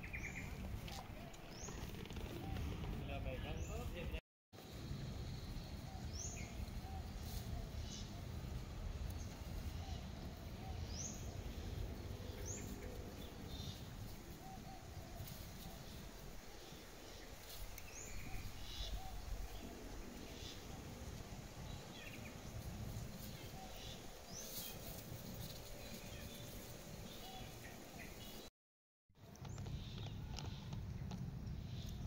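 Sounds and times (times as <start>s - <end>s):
birds chirping: 0.0s - 4.2s, 5.1s - 28.5s.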